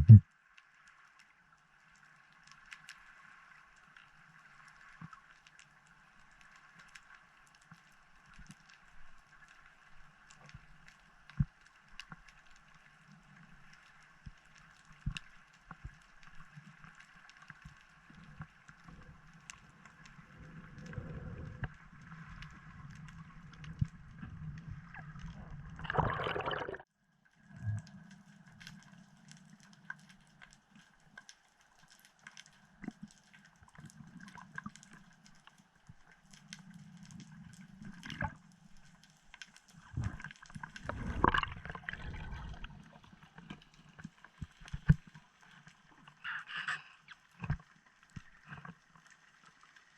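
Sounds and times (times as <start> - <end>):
muffled underwater water noise: 0.0 - 49.9.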